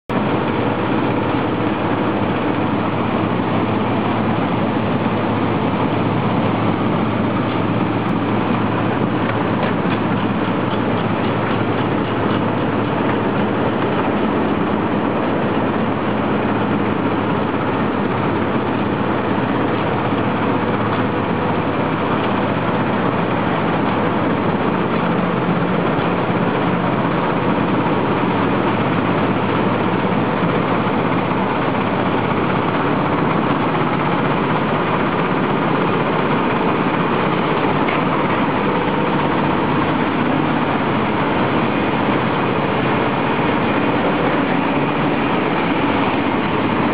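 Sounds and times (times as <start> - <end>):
grain cleaning machine running: 0.1 - 46.9.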